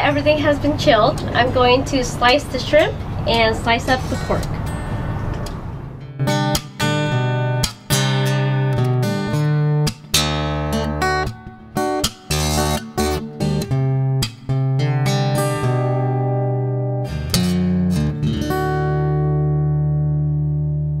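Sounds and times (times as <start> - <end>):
plucked acoustic guitar: 0.0 - 21.0.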